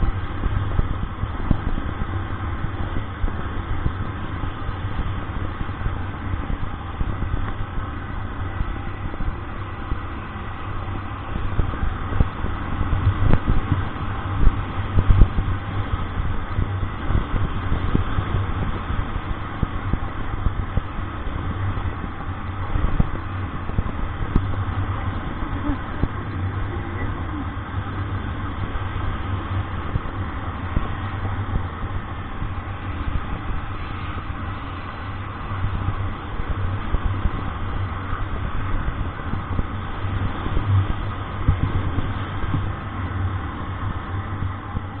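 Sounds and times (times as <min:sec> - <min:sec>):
road noise: 0:00.0 - 0:45.0
vehicle engine humming: 0:00.0 - 0:45.0.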